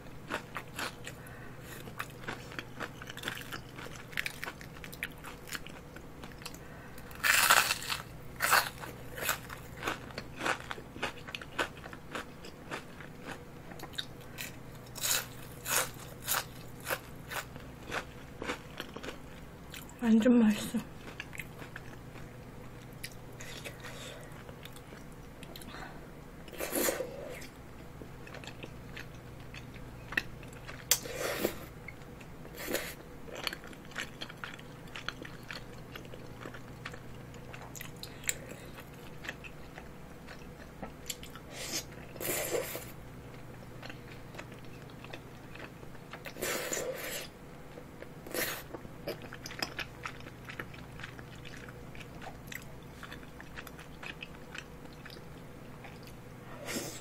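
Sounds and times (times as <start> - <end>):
person chewing food: 0.0 - 20.0, 21.0 - 57.0.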